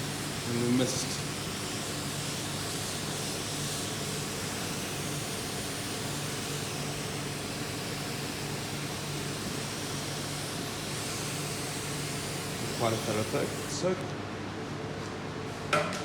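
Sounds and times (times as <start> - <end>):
water mister spraying hiss: 0.0 - 13.8.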